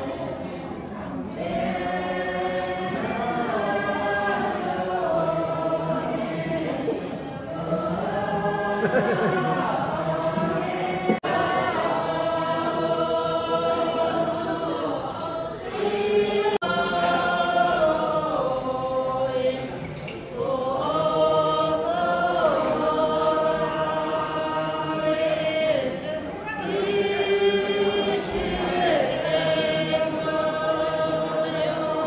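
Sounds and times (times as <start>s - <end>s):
group singing in unison: 0.0s - 32.0s.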